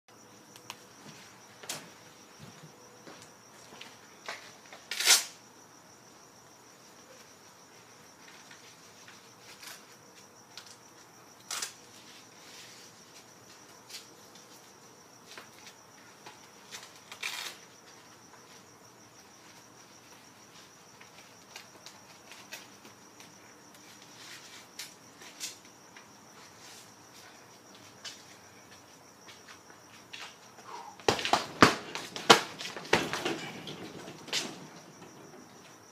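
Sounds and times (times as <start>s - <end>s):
crickets trilling: 0.1s - 35.9s.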